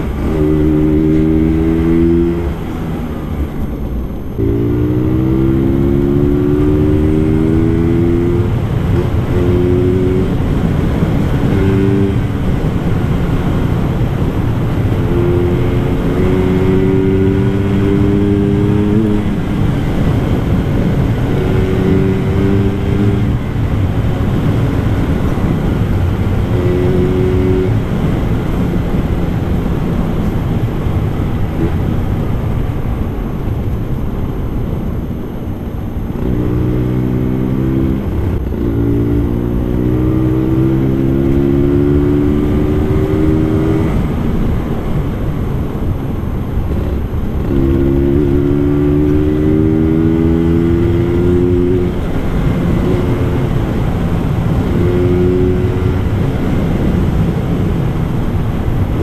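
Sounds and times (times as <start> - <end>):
scooter engine accelerating: 0.0 - 59.0
wind noise on microphone: 0.0 - 59.0.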